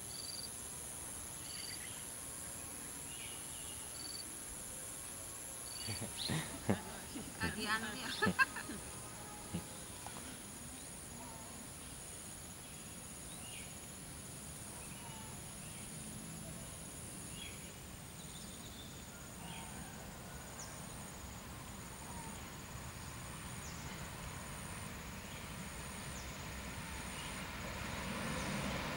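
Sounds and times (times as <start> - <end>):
faint outdoor hum: 0.0 - 28.9
insects buzzing: 0.0 - 28.9.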